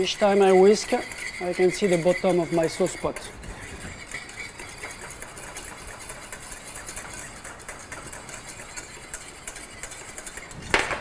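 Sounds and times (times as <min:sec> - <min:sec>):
whisk scraping a steel pan: 0:00.0 - 0:11.0.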